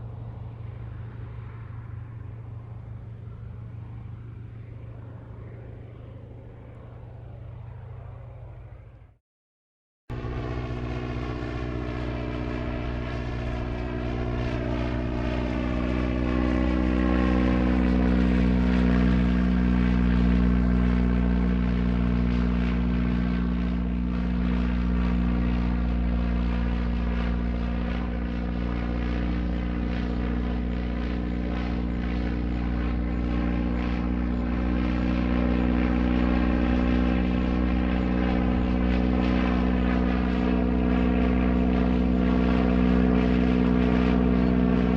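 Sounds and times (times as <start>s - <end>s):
propeller airplane engine running: 0.0s - 9.2s, 10.1s - 44.9s.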